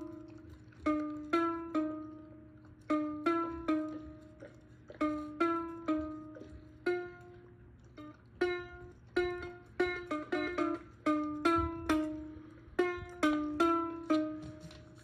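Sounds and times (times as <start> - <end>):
ukulele plucked notes and chords: 0.0 - 4.3, 5.0 - 7.4, 8.0 - 14.8.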